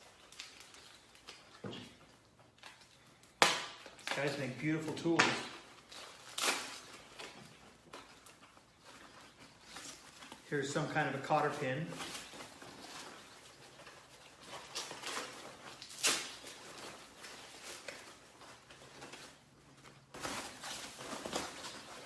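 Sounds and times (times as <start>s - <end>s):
packaging rustling: 0.0s - 22.0s.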